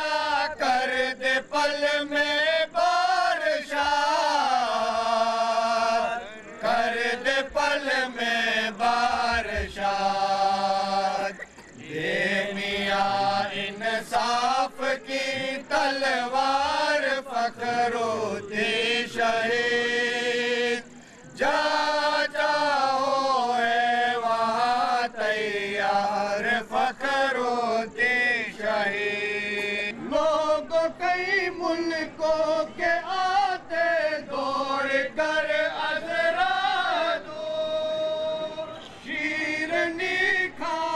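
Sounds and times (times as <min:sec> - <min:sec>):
men chanting together: 0:00.0 - 0:40.9.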